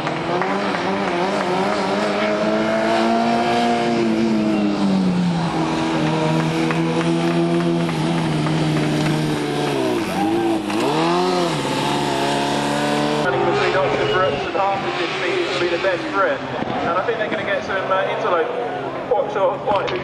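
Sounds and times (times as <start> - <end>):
race car engine running hard: 0.0 - 19.1.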